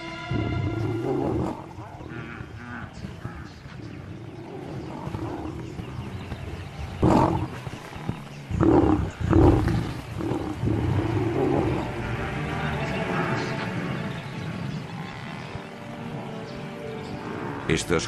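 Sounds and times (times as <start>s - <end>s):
lion growling: 0.3s - 18.0s.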